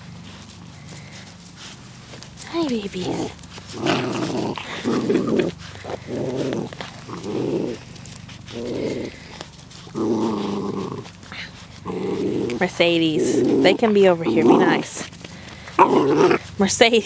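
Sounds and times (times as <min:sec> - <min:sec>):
puppies play-growling: 0:00.0 - 0:17.0.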